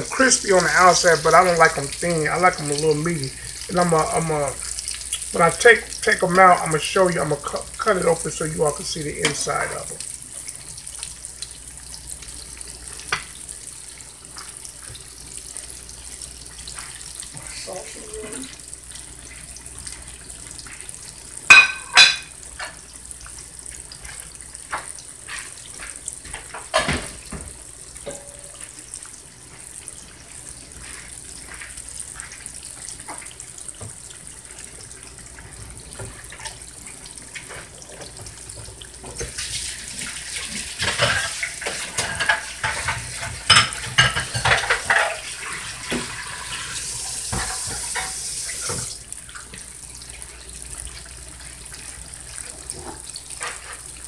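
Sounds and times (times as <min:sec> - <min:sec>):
croquettes frying in oil: 0:00.0 - 0:54.0.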